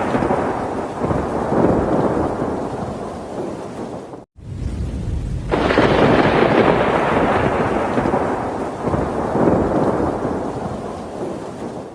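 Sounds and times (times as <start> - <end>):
thunder crack and rumble: 0.0 - 11.9.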